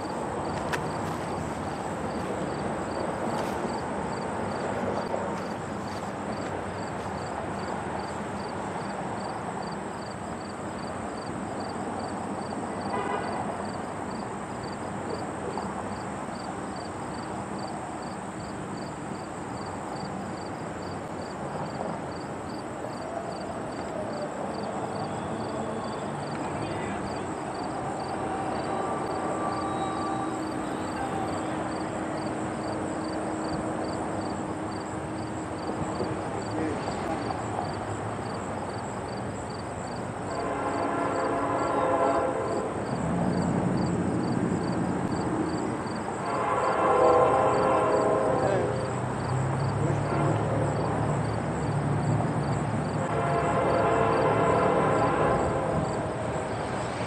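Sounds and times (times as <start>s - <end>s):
outdoor background rush: 0.0s - 57.0s.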